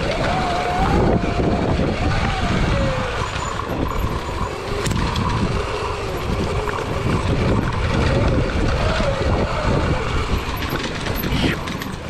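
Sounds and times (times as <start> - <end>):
dirt bike motor revving: 0.0 - 12.0.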